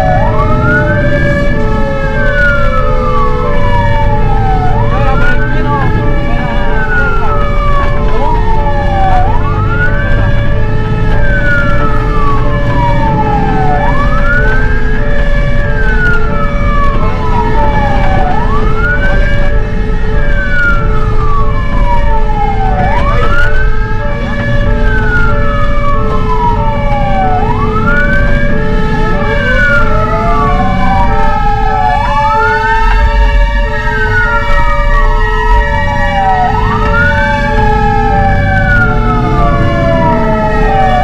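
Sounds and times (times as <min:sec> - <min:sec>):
engine and road rumble: 0:00.0 - 0:41.0
two-note siren: 0:00.0 - 0:41.0
wailing siren: 0:00.0 - 0:41.0.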